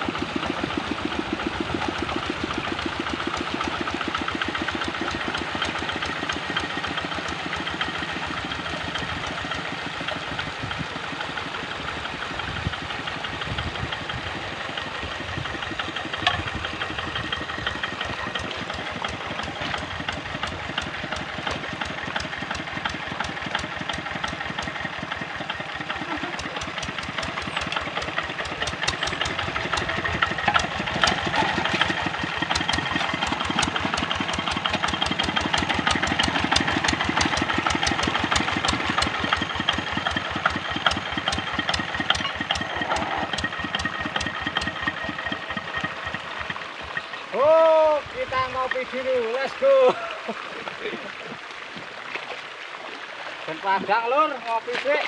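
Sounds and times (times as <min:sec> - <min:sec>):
diesel engine running under load: 0:00.0 - 0:48.8.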